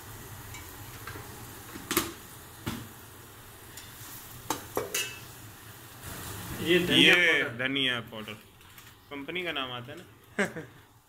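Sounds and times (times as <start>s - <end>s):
masala sizzling in a pot: 0.0s - 11.0s.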